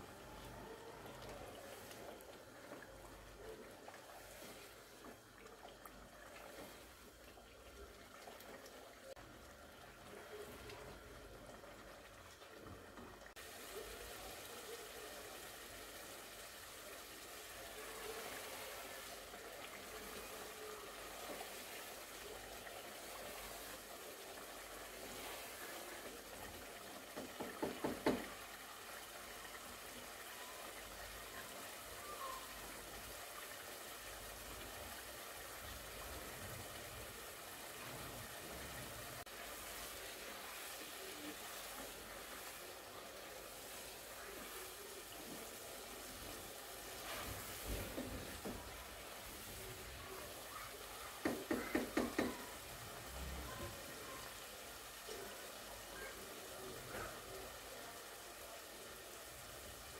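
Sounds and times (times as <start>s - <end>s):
food sizzling and bubbling in oil: 0.0s - 59.9s.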